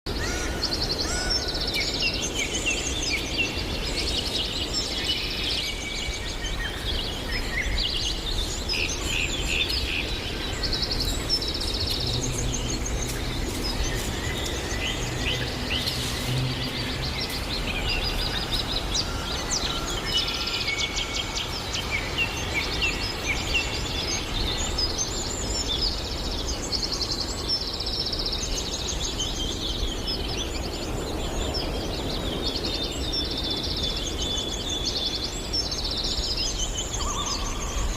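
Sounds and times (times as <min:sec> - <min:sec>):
songbirds singing: 0:00.1 - 0:37.9.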